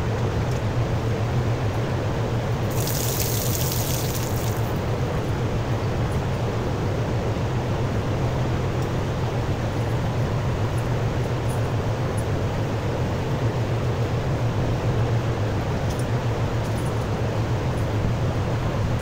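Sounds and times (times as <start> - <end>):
low mechanical hum with hiss: 0.0 - 19.0.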